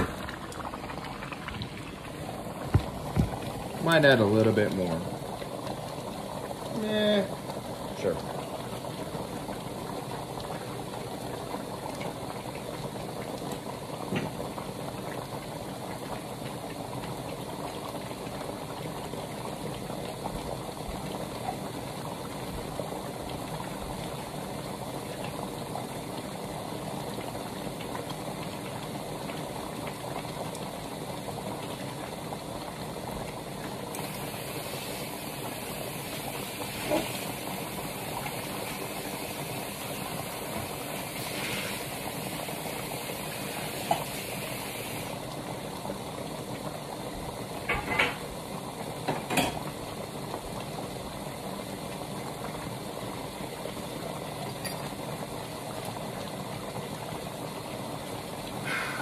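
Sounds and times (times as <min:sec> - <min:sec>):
sauce boiling and bubbling: 0:00.0 - 0:59.0.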